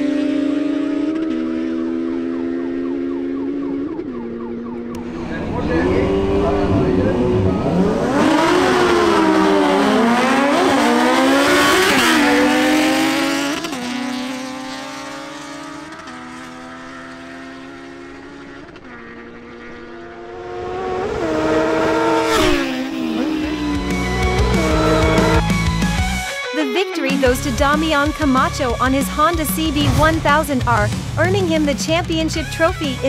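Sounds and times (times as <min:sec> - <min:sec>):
motorcycle engines revving: 0:00.0 - 0:26.2, 0:27.2 - 0:33.0.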